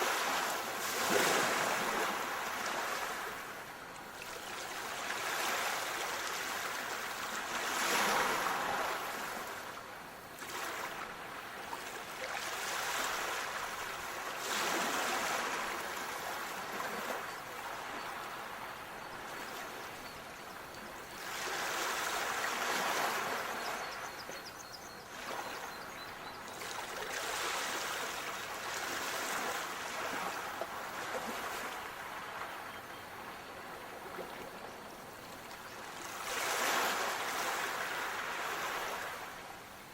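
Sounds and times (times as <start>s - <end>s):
sea waves washing onto shore: 0.0s - 9.8s, 10.4s - 20.1s, 26.6s - 39.7s.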